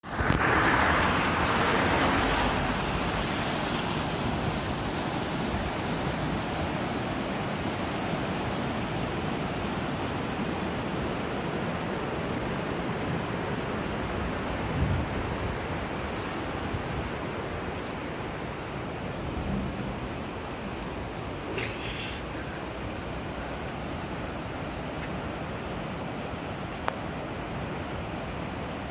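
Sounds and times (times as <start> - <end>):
surf washing onto beach: 0.0 - 28.9.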